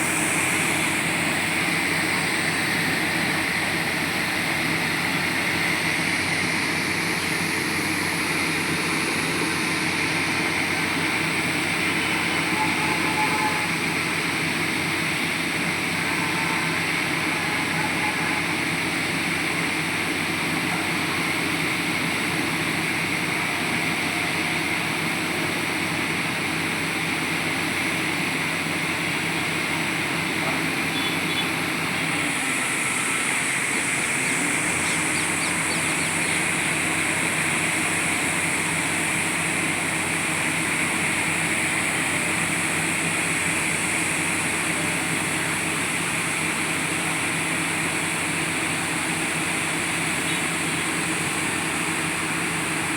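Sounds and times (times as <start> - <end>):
drilling rig engine running: 0.0 - 52.9.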